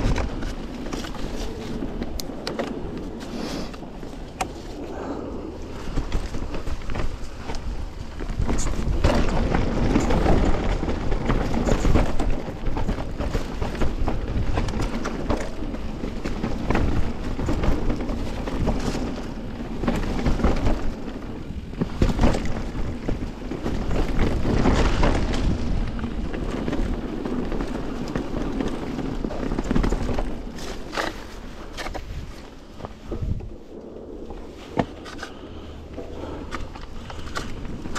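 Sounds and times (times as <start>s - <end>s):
bike rattling over bumps: 0.0s - 37.9s
bike tyres rolling over dirt: 0.0s - 37.9s
wind noise on microphone: 0.0s - 37.9s.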